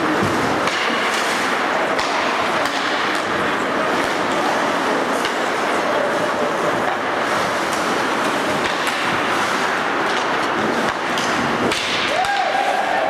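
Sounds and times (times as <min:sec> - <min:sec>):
hockey sticks and puck clicking: 0:00.0 - 0:13.0
ice rink noise: 0:00.0 - 0:13.0.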